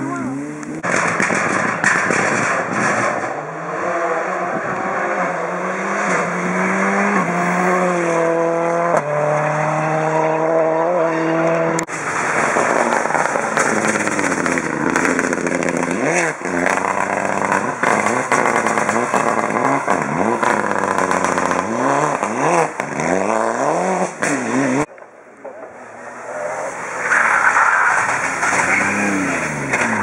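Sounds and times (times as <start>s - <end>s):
rally car engine accelerating: 0.0s - 24.9s, 27.9s - 30.0s.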